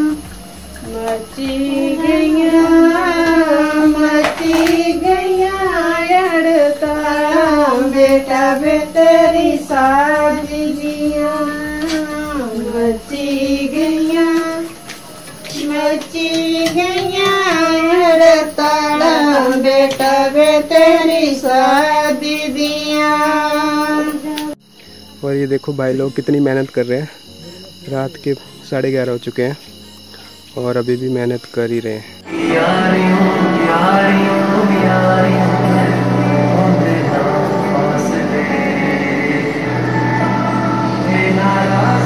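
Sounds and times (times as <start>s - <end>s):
woman singing unaccompanied: 0.0s - 24.6s, 32.2s - 42.0s.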